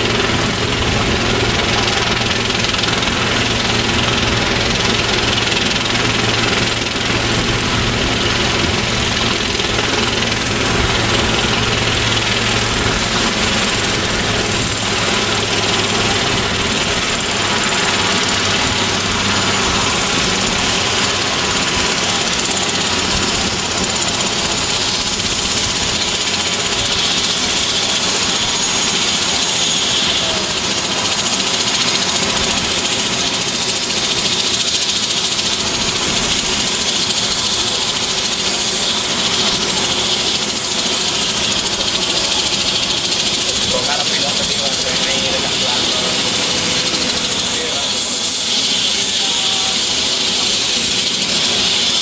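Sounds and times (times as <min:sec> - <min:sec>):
helicopter running: 0:00.0 - 0:52.0
high turbine whine: 0:00.0 - 0:52.0.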